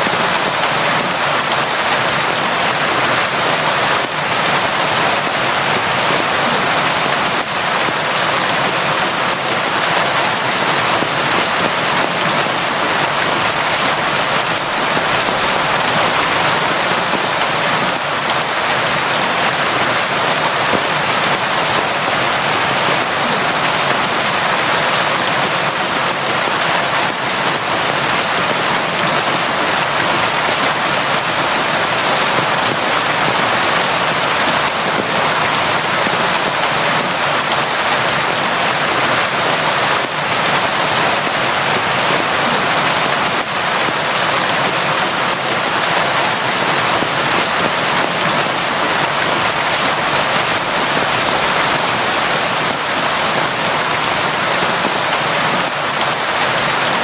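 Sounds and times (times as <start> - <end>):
heavy rain on surfaces: 0.0 - 57.0.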